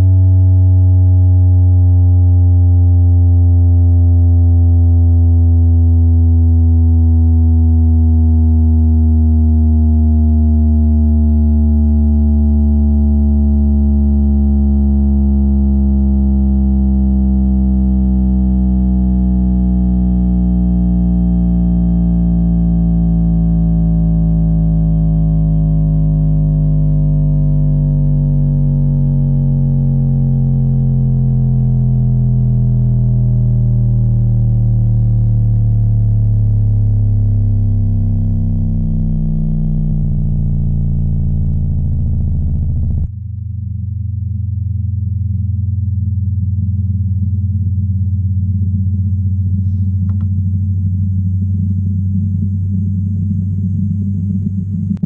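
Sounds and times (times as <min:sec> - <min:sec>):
low bass tone gliding down: 0:00.0 - 0:55.0.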